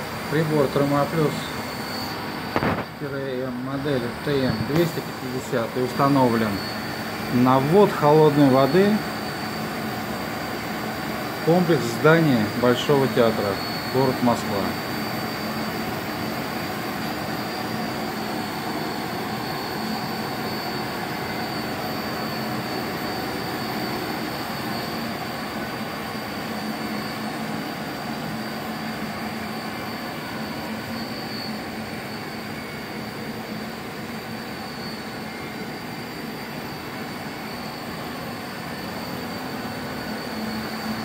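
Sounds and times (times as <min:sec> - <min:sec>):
thin high whine: 0:00.0 - 0:41.0.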